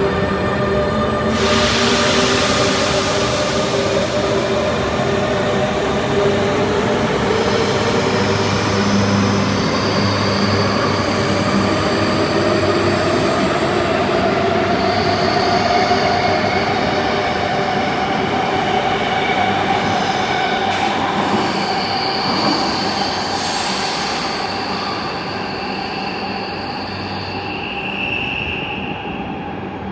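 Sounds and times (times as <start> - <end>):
electric train traction whine: 0.0 - 28.8.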